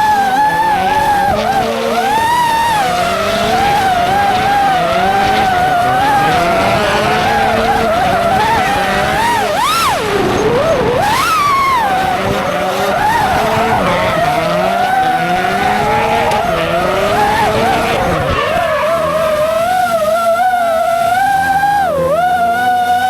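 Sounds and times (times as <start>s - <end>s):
car engine revving: 0.0s - 23.0s
tyres squealing: 0.0s - 23.0s.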